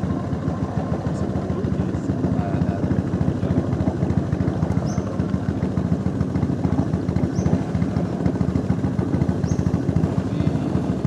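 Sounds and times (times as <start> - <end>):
small boat motor puttering: 0.0 - 11.0.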